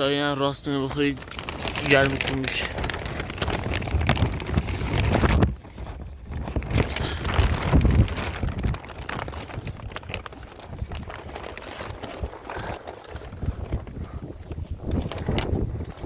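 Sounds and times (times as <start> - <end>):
wind buffeting microphone: 0.7 - 16.0.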